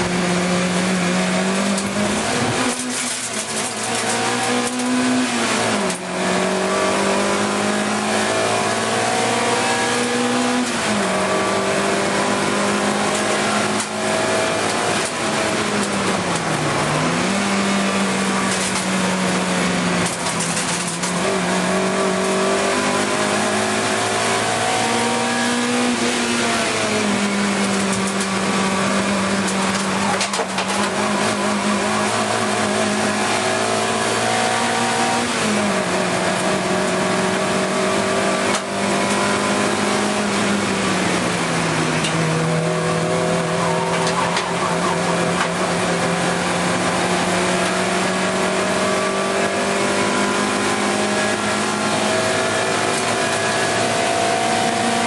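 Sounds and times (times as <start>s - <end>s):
race car engine running hard: 0.0s - 55.0s
road and wind noise: 0.0s - 55.0s.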